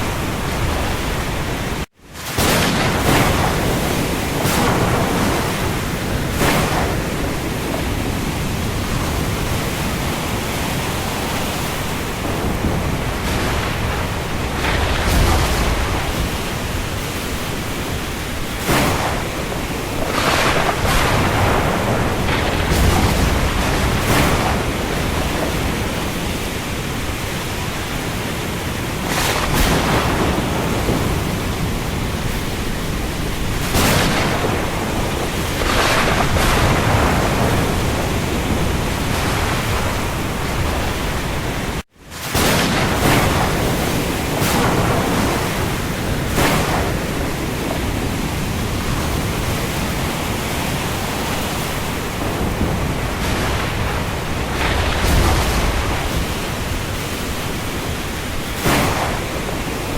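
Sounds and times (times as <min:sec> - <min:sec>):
rough sea waves surging: 0:00.0 - 0:59.9.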